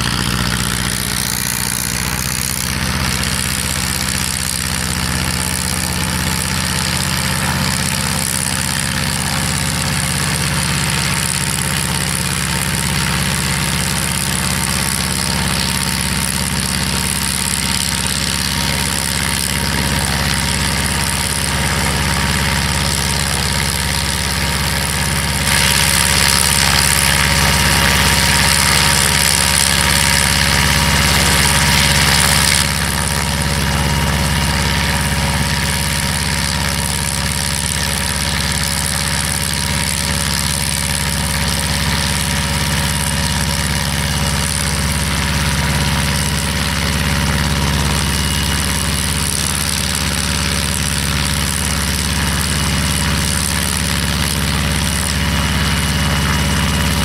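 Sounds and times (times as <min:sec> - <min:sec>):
helicopter engine idling: 0:00.0 - 0:57.0.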